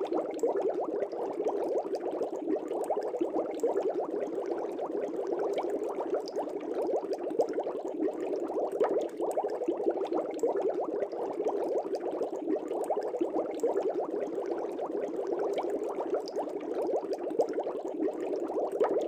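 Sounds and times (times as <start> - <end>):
aquarium air bubbling: 0.0 - 19.0.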